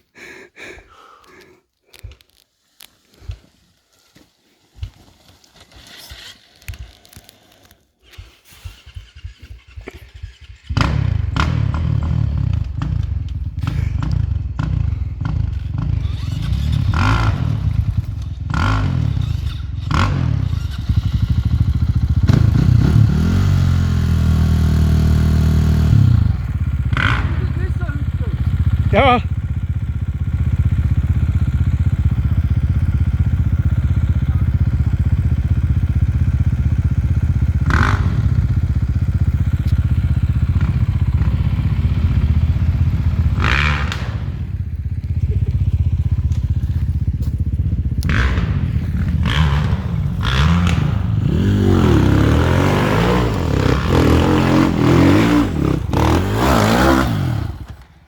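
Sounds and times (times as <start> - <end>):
motorcycle engine revving: 5.8 - 58.0.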